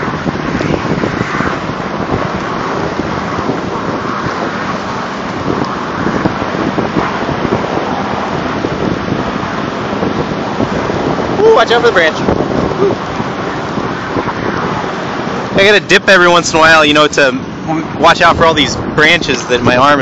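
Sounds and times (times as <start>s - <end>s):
truck engine running: 0.0s - 19.9s
wind on microphone: 0.0s - 20.0s.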